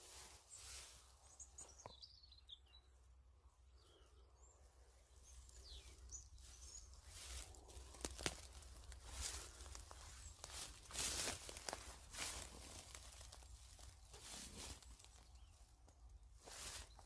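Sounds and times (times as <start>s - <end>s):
undergrowth rustling: 0.0s - 1.8s, 5.1s - 17.0s.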